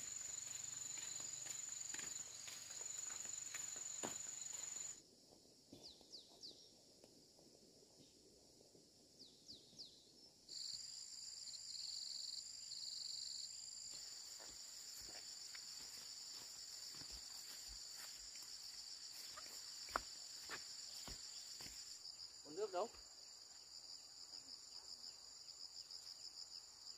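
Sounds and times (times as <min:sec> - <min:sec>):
insects chirring: 0:00.0 - 0:05.0, 0:10.0 - 0:26.9.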